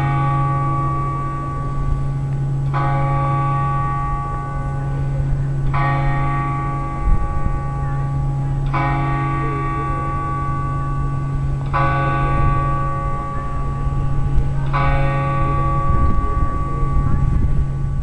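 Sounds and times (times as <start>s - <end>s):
clock tower bell striking: 0.0s - 18.0s.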